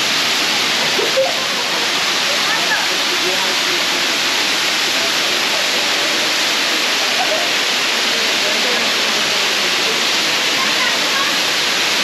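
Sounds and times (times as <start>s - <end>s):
waterfall rushing: 0.0s - 12.0s
faint voices of people: 0.8s - 11.7s.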